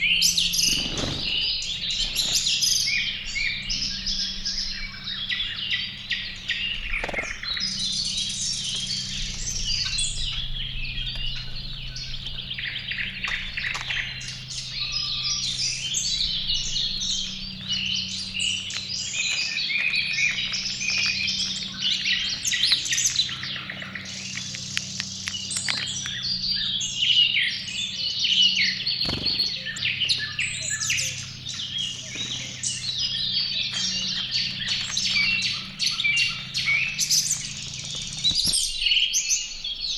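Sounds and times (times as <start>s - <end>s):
steady low hum: 0.0s - 38.9s
songbirds chirping and singing: 0.0s - 39.9s.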